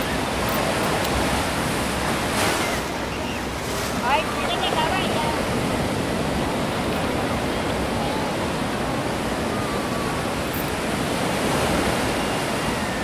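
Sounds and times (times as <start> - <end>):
ocean waves on shore: 0.0 - 13.0.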